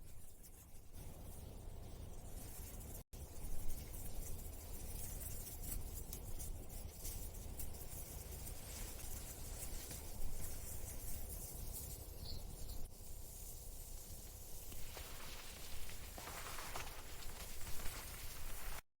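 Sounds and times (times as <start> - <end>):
scratchy rustling and scraping: 0.0 - 19.0.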